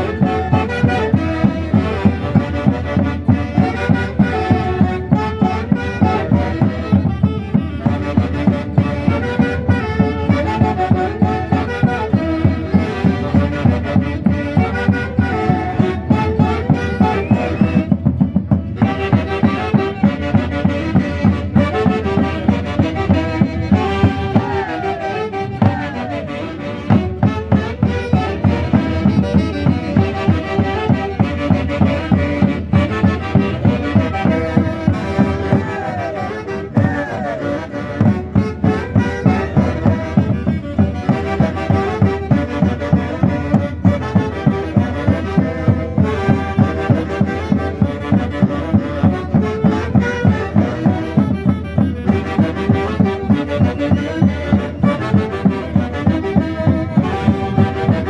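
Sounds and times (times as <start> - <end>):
festive band on wind instruments: 0.0 - 58.0.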